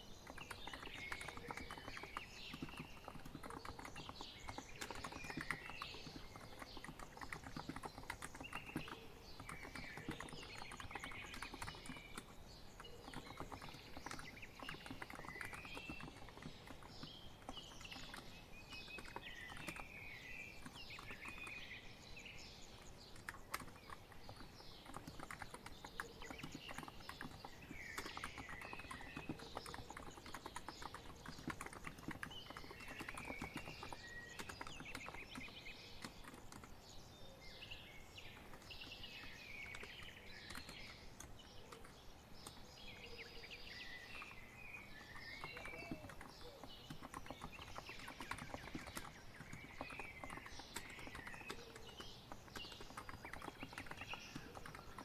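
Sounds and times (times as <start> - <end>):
keyboard typing: 0.0 - 21.7, 22.6 - 37.0, 38.2 - 55.0
birds chirping: 0.0 - 55.0.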